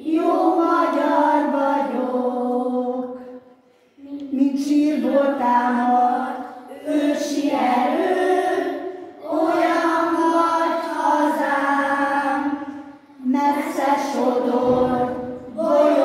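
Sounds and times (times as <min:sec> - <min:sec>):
children singing together: 0:00.0 - 0:16.0.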